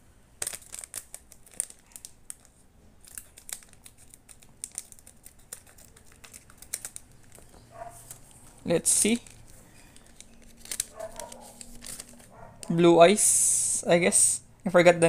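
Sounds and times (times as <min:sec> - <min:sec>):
foil wrapper crinkling: 0:00.4 - 0:12.7
scissors snipping foil pack: 0:00.4 - 0:12.7.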